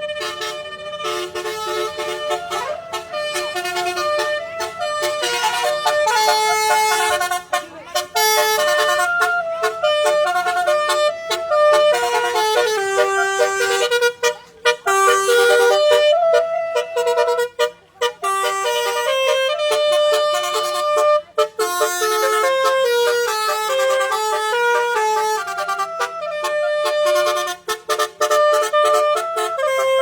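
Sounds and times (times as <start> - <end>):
multi-tone vehicle horn melody: 0.0 - 30.0.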